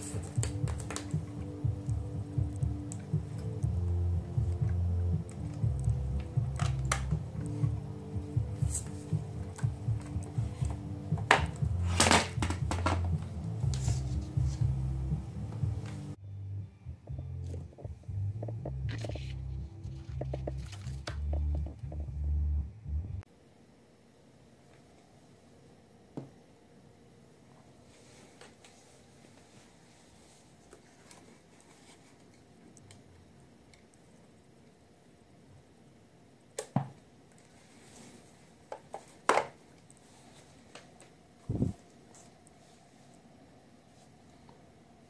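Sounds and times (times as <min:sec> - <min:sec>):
speaker hum and crackle: 0:00.0 - 0:45.0.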